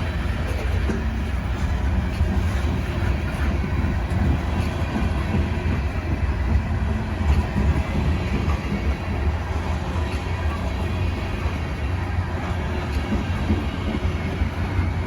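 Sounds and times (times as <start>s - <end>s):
freight train wheels clattering: 0.0s - 15.0s.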